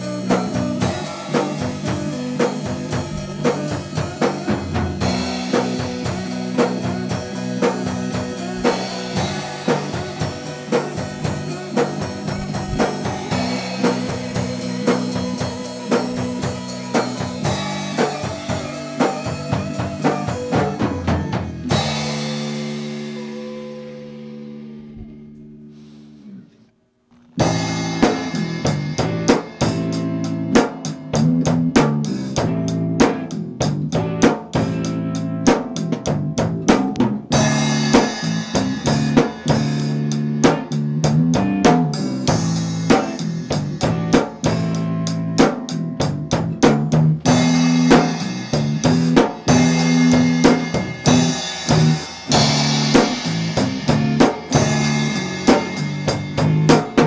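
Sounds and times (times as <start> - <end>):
drum kit beat: 0.0 - 26.4, 27.4 - 57.0
rock band playing: 0.0 - 26.5, 27.4 - 57.0.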